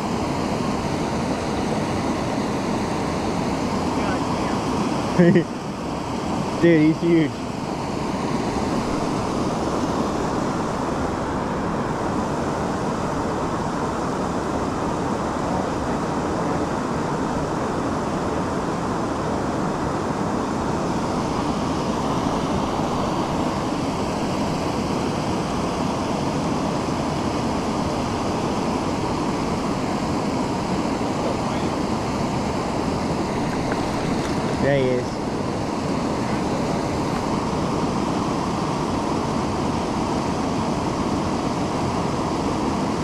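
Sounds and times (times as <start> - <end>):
waterfall rushing into pool: 0.0 - 43.0.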